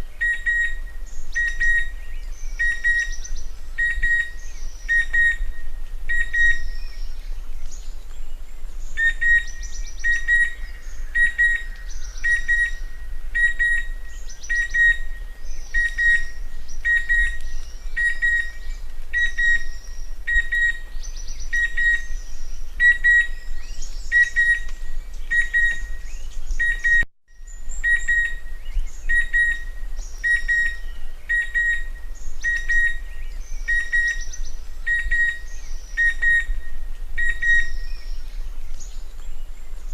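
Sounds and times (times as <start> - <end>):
cuckoo whistled calls: 0.0 - 7.9, 8.9 - 39.1
faint bird chirps: 0.0 - 39.9.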